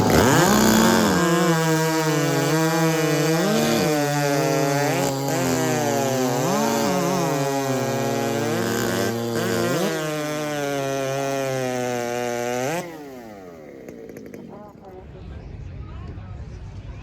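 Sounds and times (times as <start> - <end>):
chainsaw revving up and down: 0.0 - 15.0
chainsaw steady pitch: 0.0 - 15.0.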